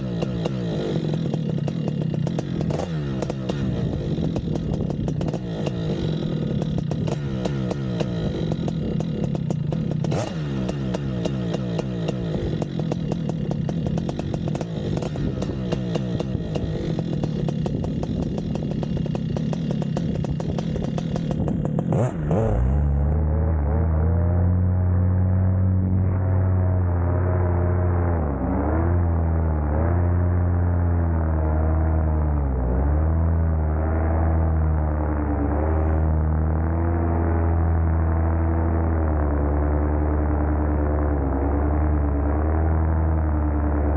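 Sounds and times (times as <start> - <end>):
paramotor engine and propeller: 0.0 - 43.9.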